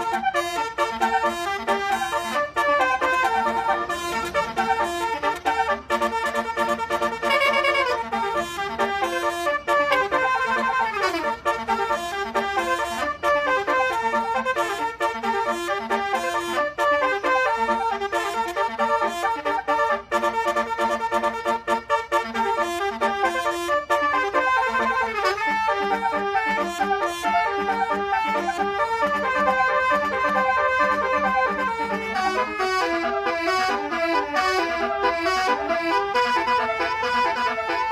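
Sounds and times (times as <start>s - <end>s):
musical air horns playing tune: 0.0s - 37.9s.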